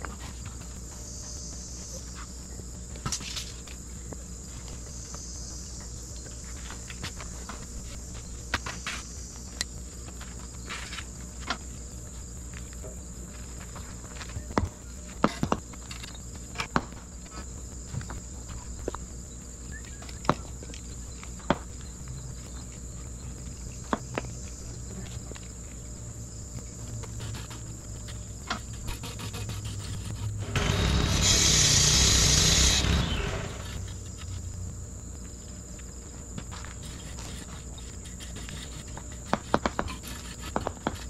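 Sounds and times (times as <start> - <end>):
high insect chorus: 0.0 - 41.0.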